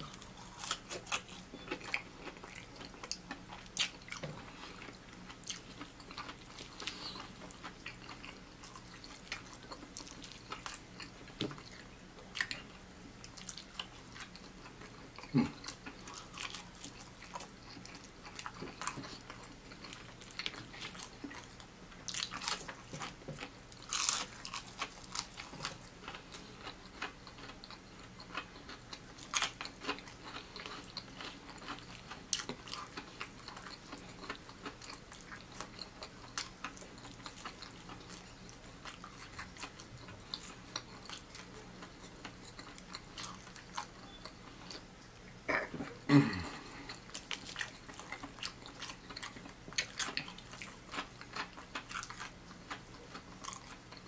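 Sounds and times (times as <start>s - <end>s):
person chewing crispy chicken: 0.0s - 44.9s, 46.2s - 54.0s.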